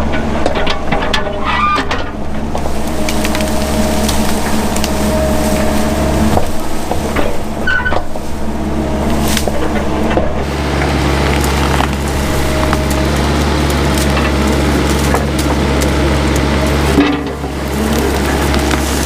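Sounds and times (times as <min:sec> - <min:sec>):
excavator engine running under load: 0:00.0 - 0:19.0
brush and small trees cracking: 0:02.2 - 0:19.0.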